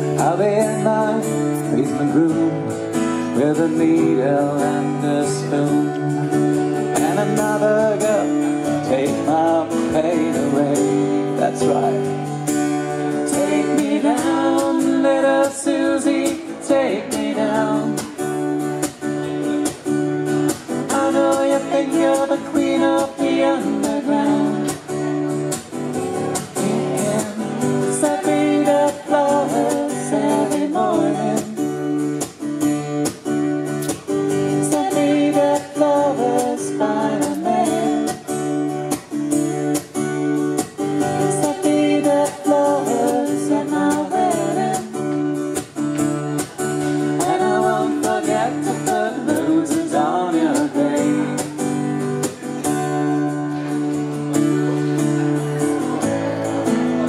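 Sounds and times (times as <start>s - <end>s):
people singing: 0.0s - 32.2s, 33.9s - 38.8s, 40.6s - 57.0s
acoustic guitar strumming: 0.0s - 57.0s.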